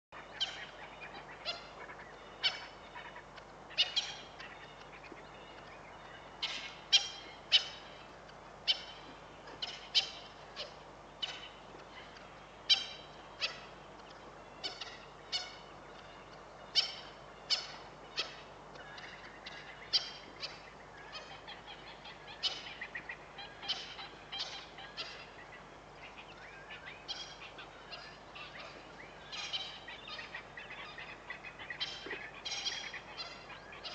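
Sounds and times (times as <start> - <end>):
faint low hum: 0.2 - 33.9.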